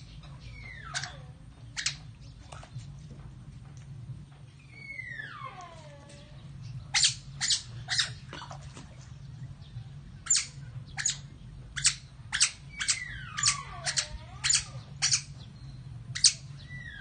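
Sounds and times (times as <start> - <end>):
otters chirping: 0.0 - 2.9, 4.6 - 17.0.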